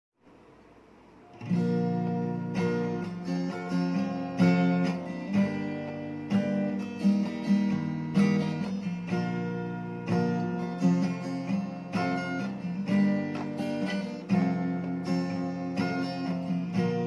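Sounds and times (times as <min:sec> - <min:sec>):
guitar strumming chords: 0:01.2 - 0:17.0.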